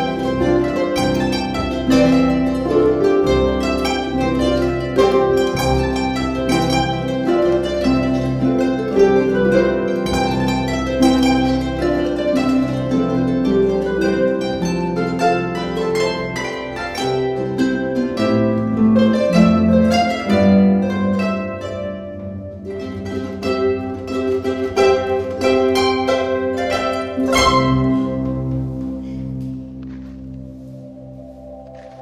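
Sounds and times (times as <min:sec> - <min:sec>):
harp ensemble playing: 0:00.0 - 0:32.0
loud harp chord: 0:00.0 - 0:32.0.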